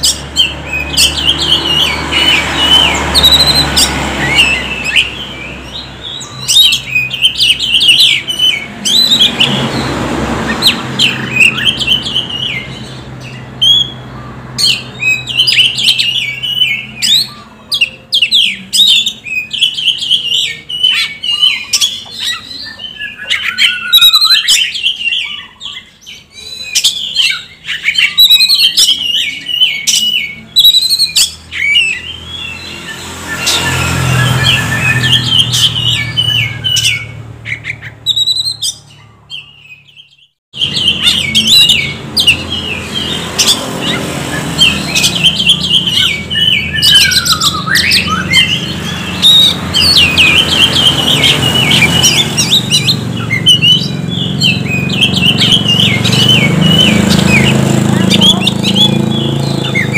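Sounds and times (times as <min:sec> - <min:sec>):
bird singing whistles and trills: 0:00.0 - 0:09.9, 0:10.5 - 0:59.9.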